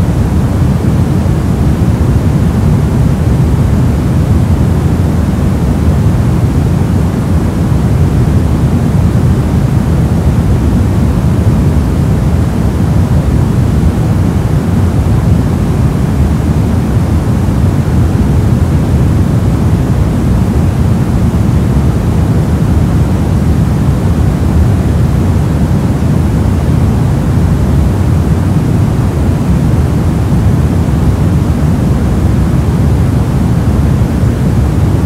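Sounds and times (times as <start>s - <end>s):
deep static noise: 0.0s - 35.0s.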